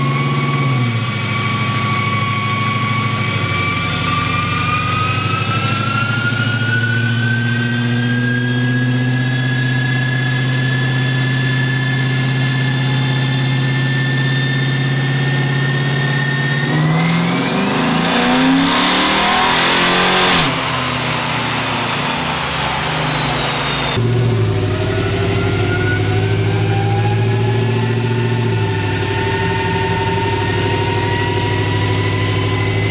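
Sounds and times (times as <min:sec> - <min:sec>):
car coasting with falling whine: 0:00.0 - 0:32.9
engine whine at full throttle: 0:00.0 - 0:32.9.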